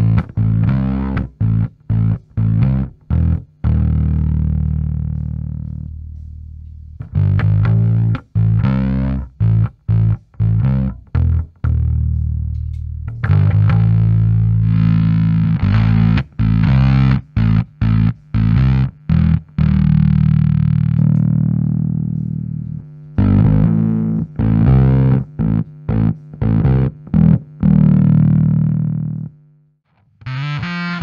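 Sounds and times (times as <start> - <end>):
fuzzed electric bass riff: 0.0 - 31.0.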